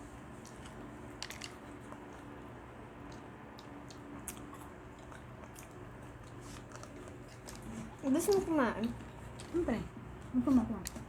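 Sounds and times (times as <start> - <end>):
faint chewing and eating: 0.0 - 11.0
low background hum: 0.0 - 11.0.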